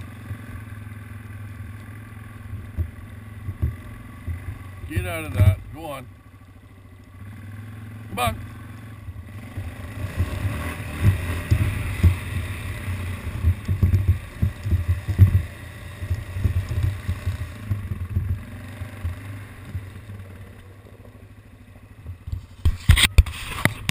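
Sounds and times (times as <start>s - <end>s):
quad bike engine rumbling: 0.0s - 23.9s.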